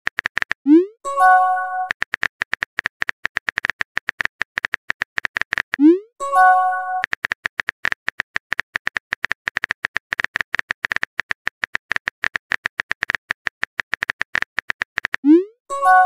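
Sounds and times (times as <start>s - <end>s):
phone keyboard typing clicks: 0.1s - 15.4s.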